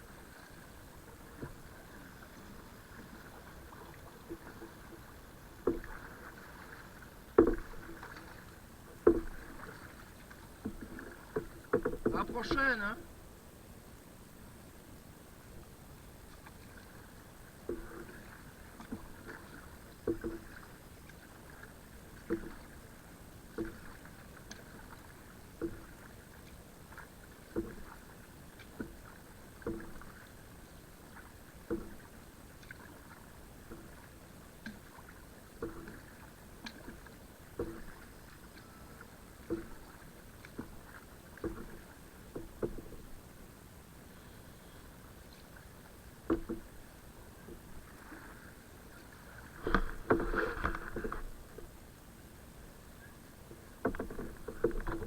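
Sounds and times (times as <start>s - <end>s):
kayak paddle splashing water: 0.0s - 13.2s, 15.9s - 55.0s.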